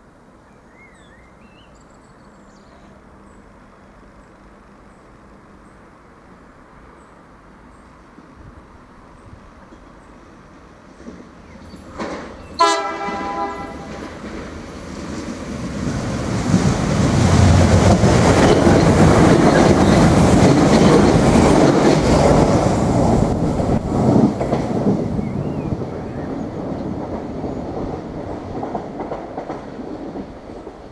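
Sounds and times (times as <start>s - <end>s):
train passing at speed: 0.0s - 30.9s.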